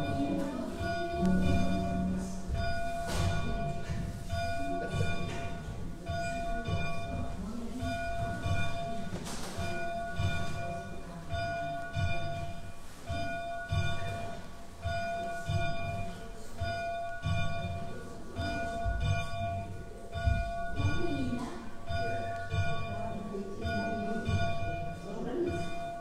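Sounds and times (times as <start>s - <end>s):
church bell tolling: 0.0s - 26.0s.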